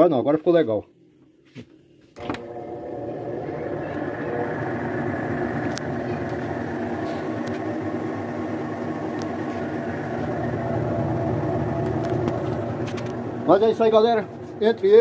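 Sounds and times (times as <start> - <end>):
washing machine spinning: 2.2 - 15.0.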